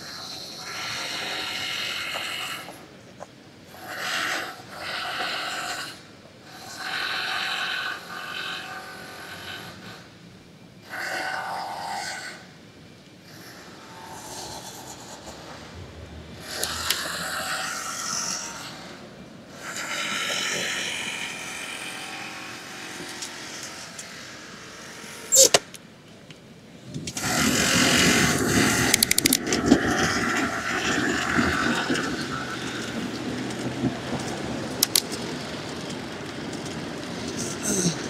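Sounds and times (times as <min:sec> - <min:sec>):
road noise: 0:00.0 - 0:38.0
street traffic: 0:00.0 - 0:38.0.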